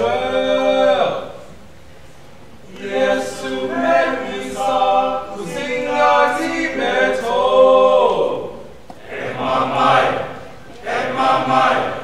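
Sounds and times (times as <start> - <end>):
mixed choir singing sustained chords: 0.0 - 1.6, 2.6 - 12.0.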